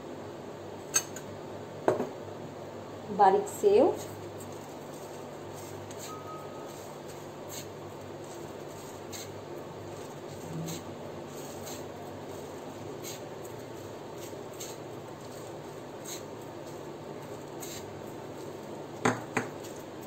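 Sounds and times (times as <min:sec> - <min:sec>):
background hum: 0:00.0 - 0:20.0
dry rustling of sprinkled food: 0:03.8 - 0:20.0.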